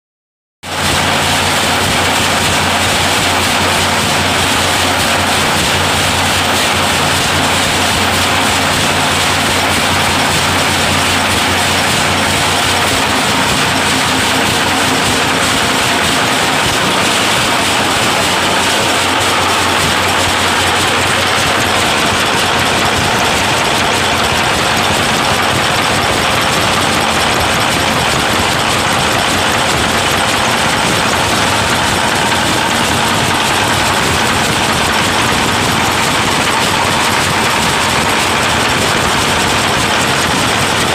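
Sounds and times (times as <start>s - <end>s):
rapid mechanical clatter: 0.6s - 40.9s
steady low hum: 0.8s - 40.9s.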